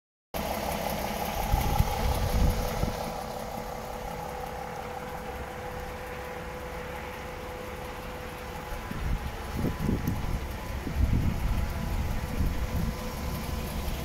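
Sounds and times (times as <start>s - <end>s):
diesel truck engine idling: 0.4s - 14.0s
steady whine: 0.4s - 14.0s.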